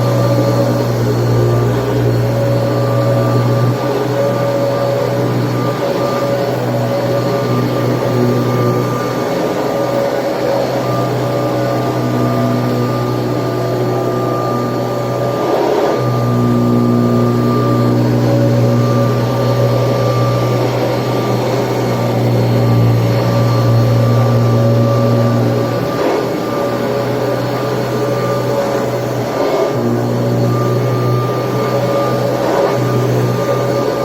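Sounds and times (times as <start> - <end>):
vacuum cleaner motor whine: 0.0 - 34.0.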